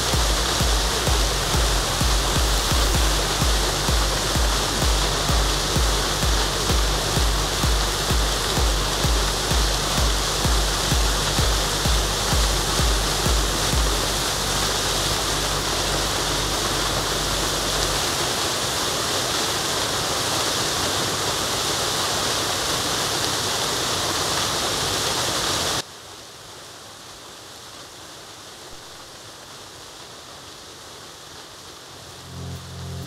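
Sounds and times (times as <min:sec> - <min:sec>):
waterfall pouring over rocks: 0:00.0 - 0:33.0.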